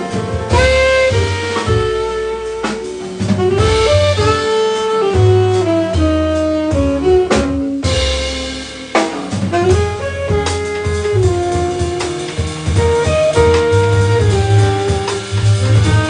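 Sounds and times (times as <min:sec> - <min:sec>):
jazz band playing: 0:00.0 - 0:16.0
saxophone melody: 0:00.0 - 0:16.0.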